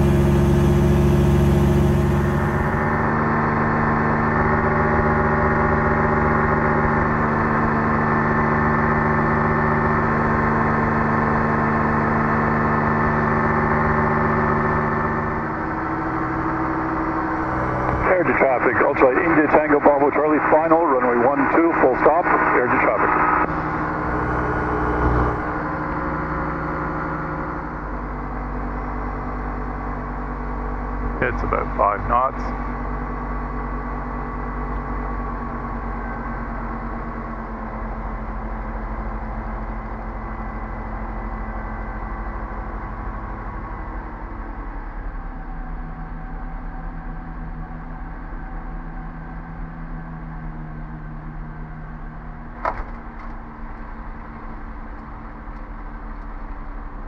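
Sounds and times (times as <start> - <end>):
ultralight aircraft engine and propeller: 0.0 - 57.0.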